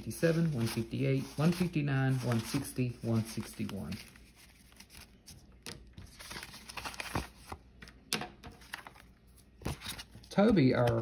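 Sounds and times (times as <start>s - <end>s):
paper banknotes rustling: 0.0s - 11.0s.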